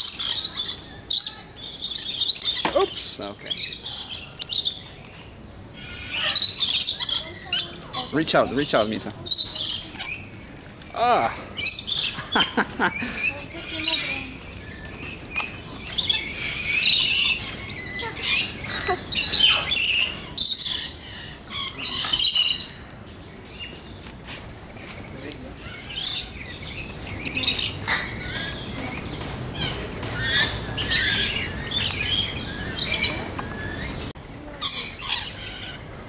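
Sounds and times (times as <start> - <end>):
parrots calling: 0.0 - 4.9, 5.6 - 24.0, 25.5 - 36.0
high-pitched insect drone: 0.0 - 36.0.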